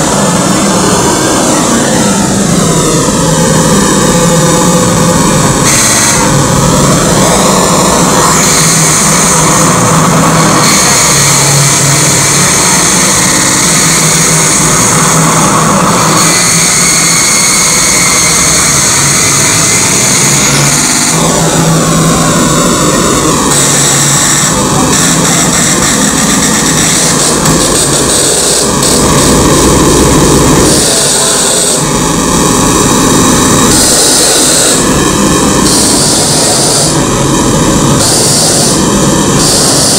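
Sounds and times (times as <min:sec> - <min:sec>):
harsh electronic noise roar: 0:00.0 - 0:39.9
steady low drone: 0:00.0 - 0:39.9.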